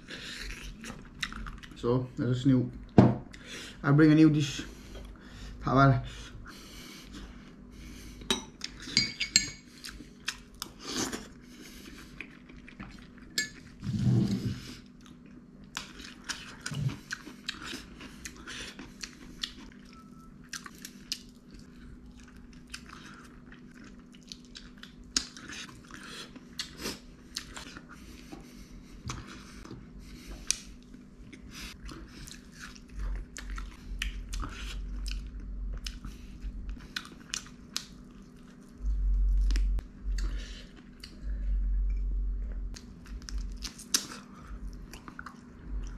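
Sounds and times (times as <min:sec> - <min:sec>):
chewing and crunching: 0:00.0 - 0:01.9, 0:08.5 - 0:41.6, 0:42.4 - 0:45.9.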